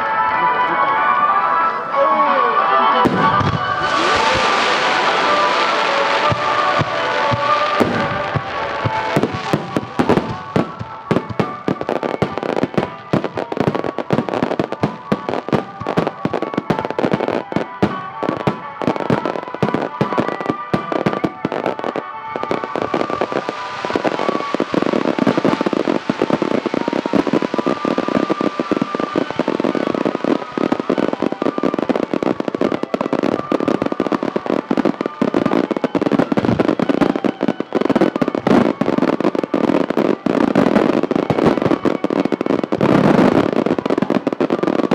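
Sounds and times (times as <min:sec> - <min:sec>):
fireworks bangs and crackling: 0:00.0 - 0:44.9
music: 0:00.0 - 0:44.9.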